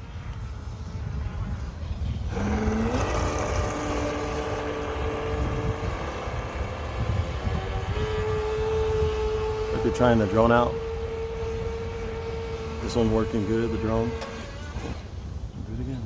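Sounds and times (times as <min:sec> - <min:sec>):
small electric motor whining: 0:00.0 - 0:15.7
steady low rumble: 0:00.0 - 0:16.0.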